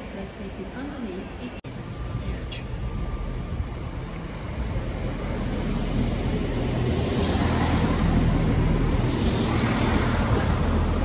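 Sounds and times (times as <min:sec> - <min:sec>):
diesel train engines running: 0:00.0 - 0:11.0.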